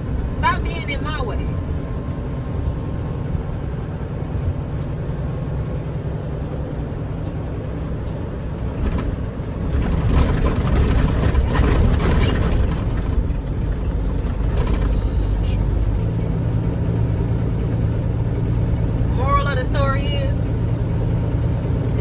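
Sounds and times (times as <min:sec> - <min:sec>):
diesel truck engine drone: 0:00.0 - 0:22.0.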